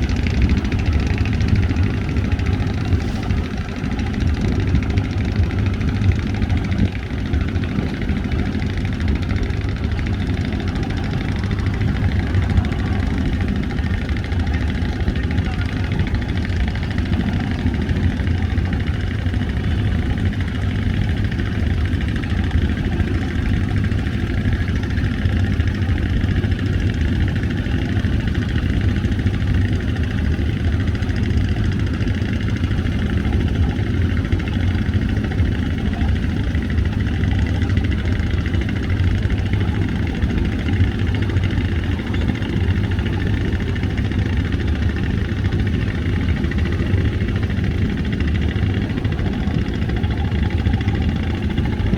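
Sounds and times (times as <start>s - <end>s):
ferry engines droning: 0.0s - 51.9s.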